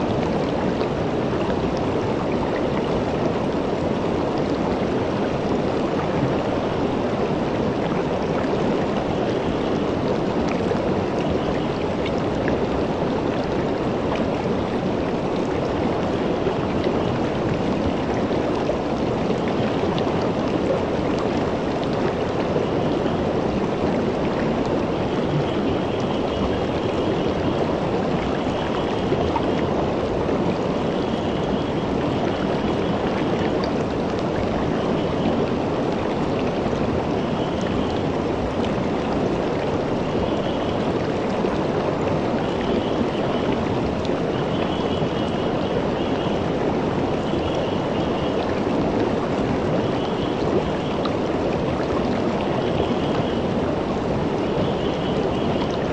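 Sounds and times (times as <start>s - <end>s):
river rushing over rocks: 0.0s - 55.9s.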